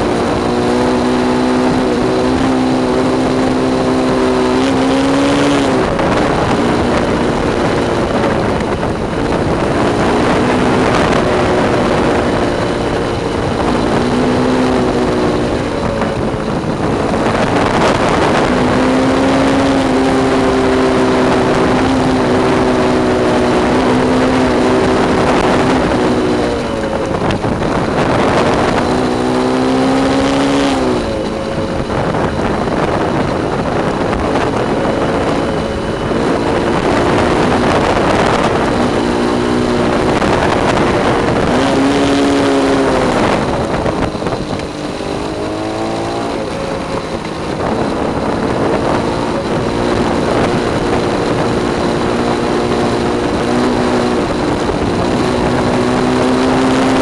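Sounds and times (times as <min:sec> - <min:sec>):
humming whine: 0:00.0 - 0:57.0
rushing wind: 0:00.0 - 0:57.0
tires rolling on asphalt: 0:00.0 - 0:57.0.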